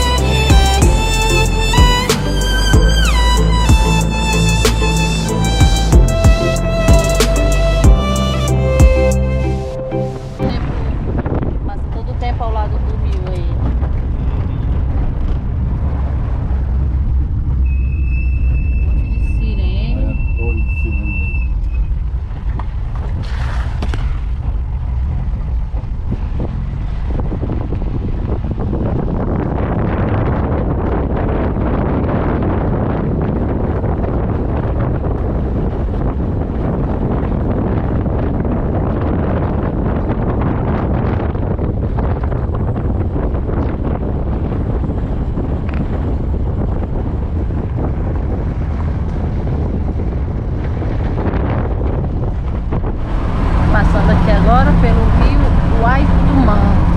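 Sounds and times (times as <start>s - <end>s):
wind buffeting microphone: 0.0s - 9.5s, 10.3s - 56.9s.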